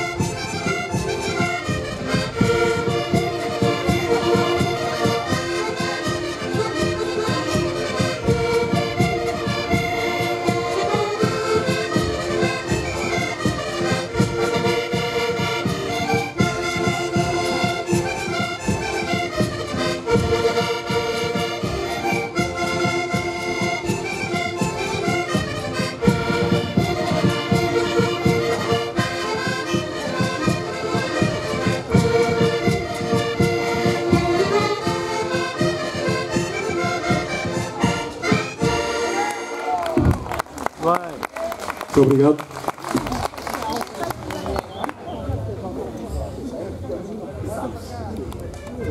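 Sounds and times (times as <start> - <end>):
button accordions playing folk tune: 0.0 - 39.8.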